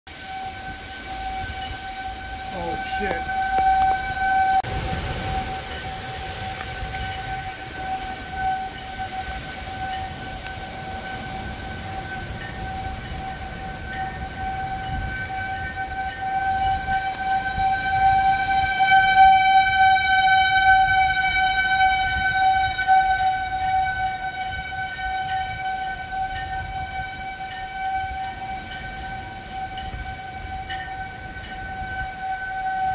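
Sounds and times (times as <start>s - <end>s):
tornado warning siren: 0.1s - 32.9s.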